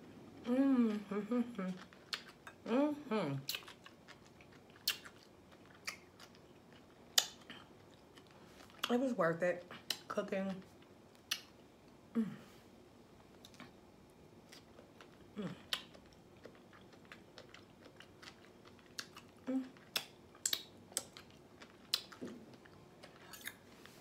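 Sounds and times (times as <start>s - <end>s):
crunchy chewing of vegetables: 1.7s - 2.7s, 3.4s - 11.5s, 13.3s - 24.0s.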